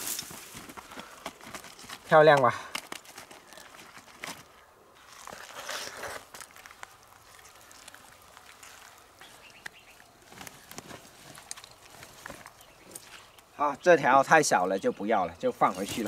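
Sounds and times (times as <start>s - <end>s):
hands handling fish in nylon bag: 0.0s - 13.5s.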